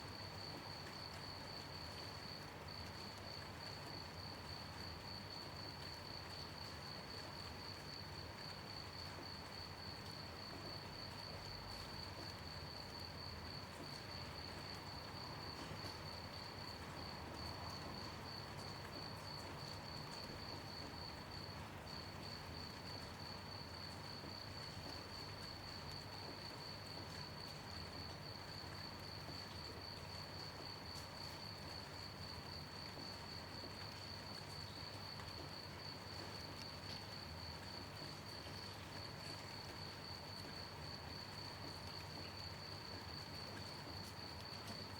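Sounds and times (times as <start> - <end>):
light rain hiss: 0.0 - 44.9
crickets chirping: 0.1 - 44.9.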